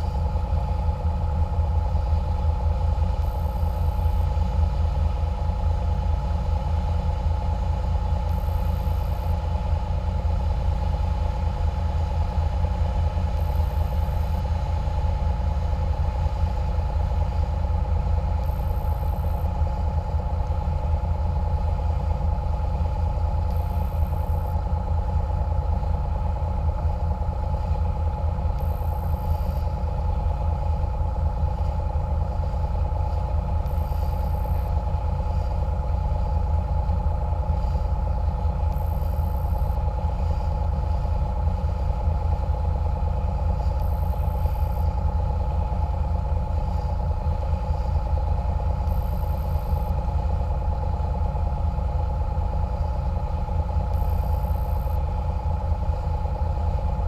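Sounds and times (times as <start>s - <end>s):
boat engines droning: 0.0s - 57.0s.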